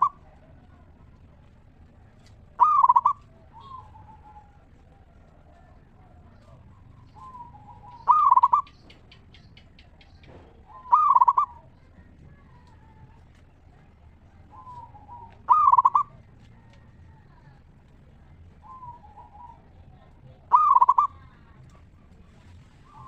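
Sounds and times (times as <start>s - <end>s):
dove cooing: 0.0s - 17.7s, 18.3s - 23.0s.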